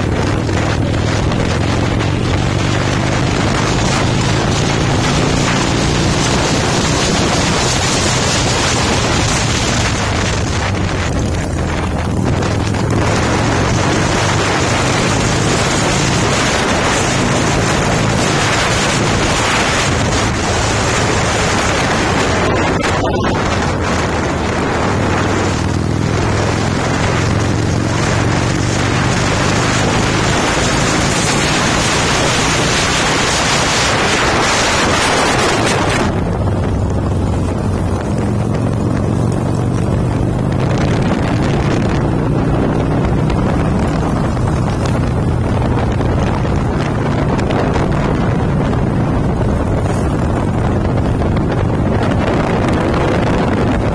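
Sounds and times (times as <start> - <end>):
motorcycle engine cruising: 0.0 - 53.9
wind on microphone: 0.0 - 53.9.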